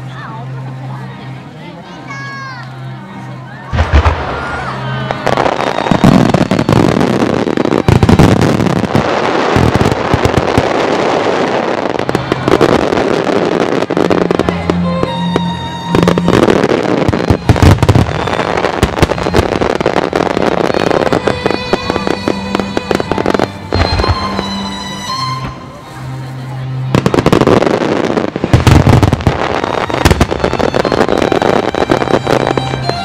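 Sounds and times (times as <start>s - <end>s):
sustained musical tones: 0.0s - 33.0s
fireworks bursting and crackling: 3.7s - 33.0s.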